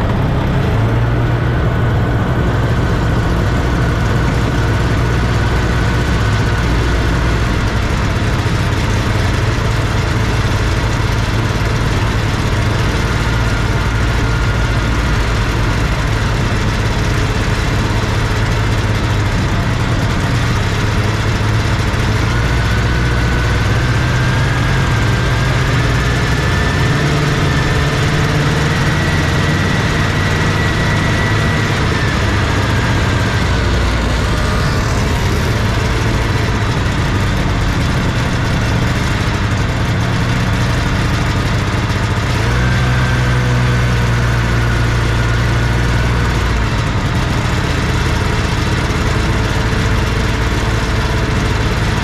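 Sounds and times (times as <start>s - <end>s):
snowmobile engine running: 0.0s - 52.0s.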